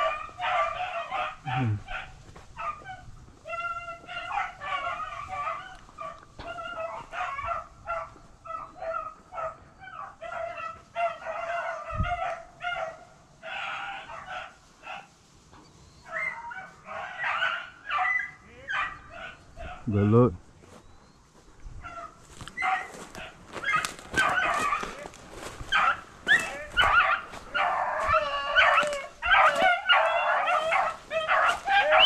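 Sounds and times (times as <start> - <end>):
hounds baying and yelping: 0.0 - 20.0, 20.6 - 32.0.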